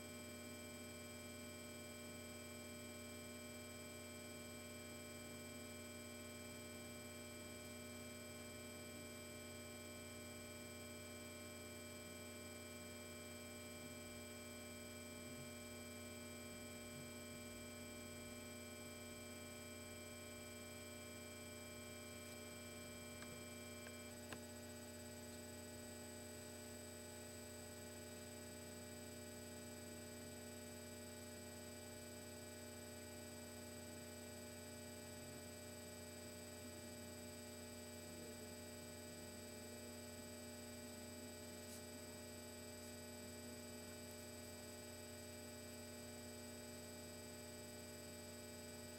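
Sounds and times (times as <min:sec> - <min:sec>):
faint electrical hum: 0:00.0 - 0:48.9.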